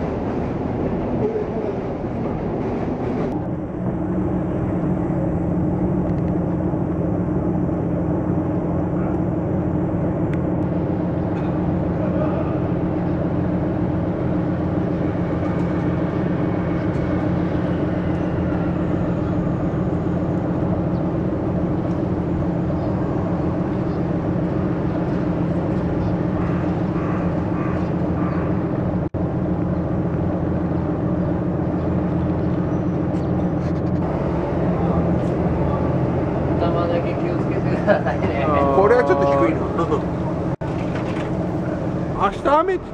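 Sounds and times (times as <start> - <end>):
boat engine drone: 0.0 - 42.9.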